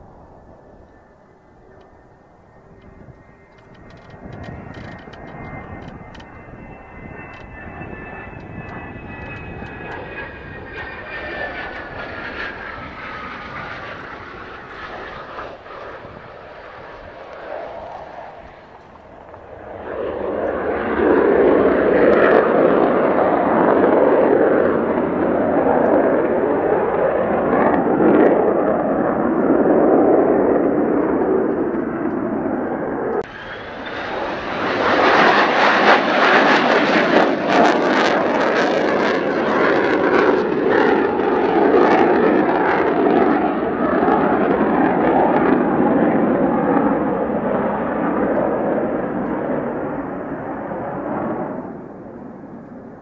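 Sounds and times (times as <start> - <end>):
jet engine roaring: 0.0 - 53.0.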